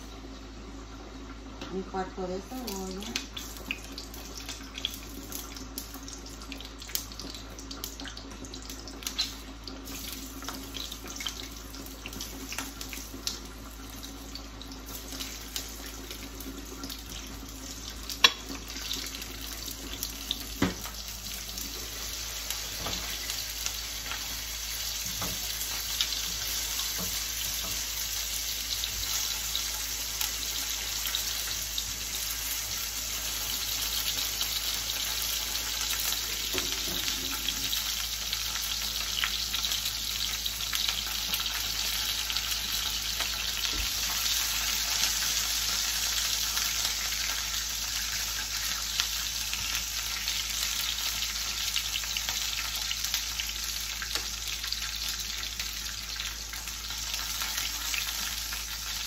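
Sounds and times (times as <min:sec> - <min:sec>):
onions sizzling in oil: 0:00.0 - 0:59.0.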